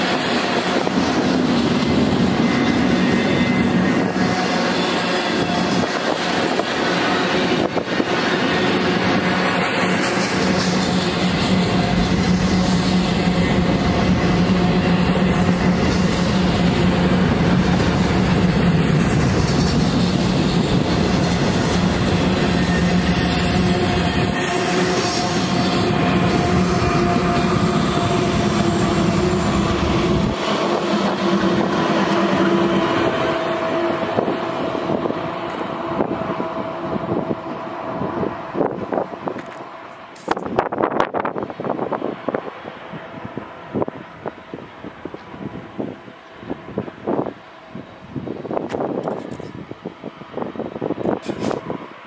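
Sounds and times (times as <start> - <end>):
diesel locomotive engine drone: 0.0 - 52.0
freight train wheels rumbling on rail: 0.0 - 52.0.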